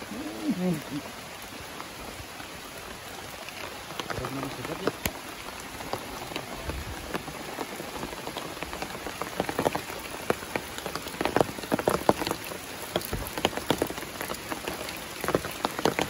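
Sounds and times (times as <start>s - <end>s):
heavy rain: 0.0s - 16.0s
large raindrops tapping on surface: 0.0s - 16.0s.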